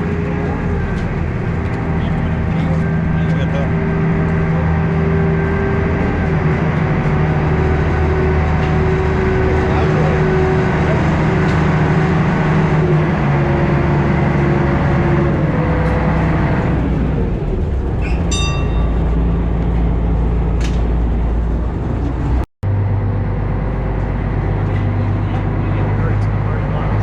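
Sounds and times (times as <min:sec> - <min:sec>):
large engine droning: 0:00.0 - 0:27.0.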